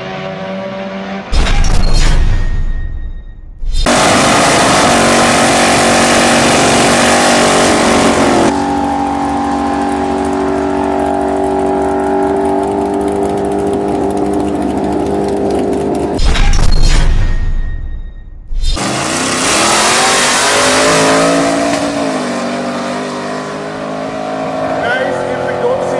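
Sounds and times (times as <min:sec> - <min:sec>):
drag racing car engines: 0:00.0 - 0:01.9, 0:03.8 - 0:16.8, 0:18.8 - 0:25.9.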